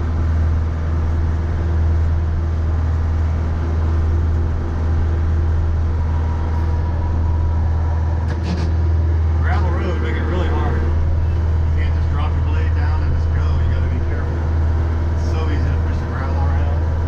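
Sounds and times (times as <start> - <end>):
faint steady whine: 0.0 - 17.0
tractor diesel engine running: 0.0 - 17.0.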